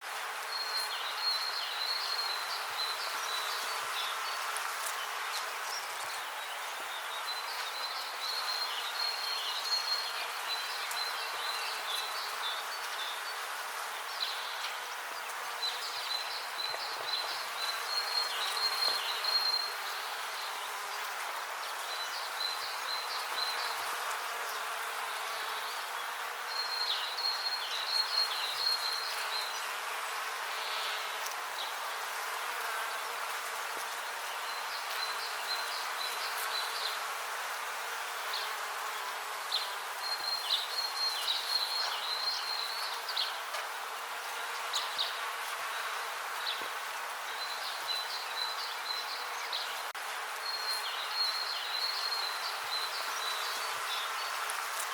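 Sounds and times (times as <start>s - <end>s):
honeybees buzzing: 0.1s - 54.9s.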